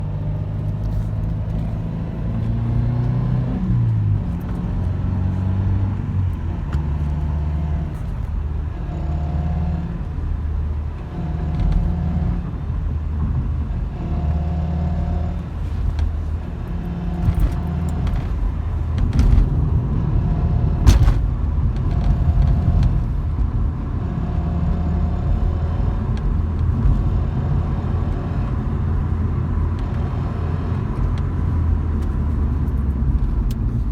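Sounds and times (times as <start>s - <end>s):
car engine running: 0.0s - 33.9s
engine whine: 0.0s - 33.9s.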